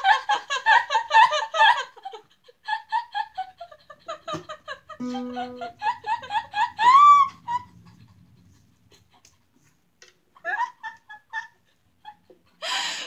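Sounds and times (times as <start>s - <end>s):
women laughing: 0.0s - 9.6s, 10.3s - 13.0s.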